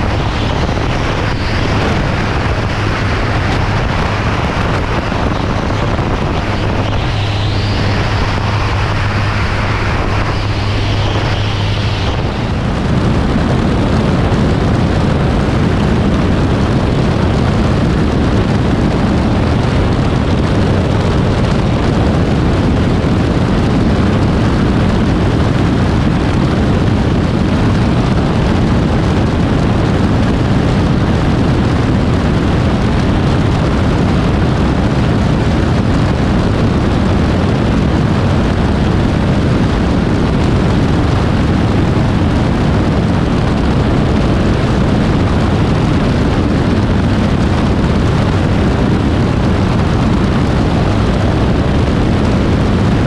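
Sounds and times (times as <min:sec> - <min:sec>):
aircraft engine and propeller drone: 0:00.0 - 0:53.0
wind rushing over microphone: 0:00.0 - 0:53.0.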